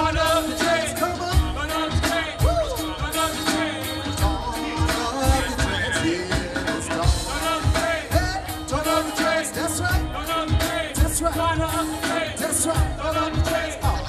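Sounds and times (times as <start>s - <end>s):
live hip-hop band: 0.0s - 14.0s
person singing: 0.0s - 14.0s
steady drum beat: 0.0s - 14.0s.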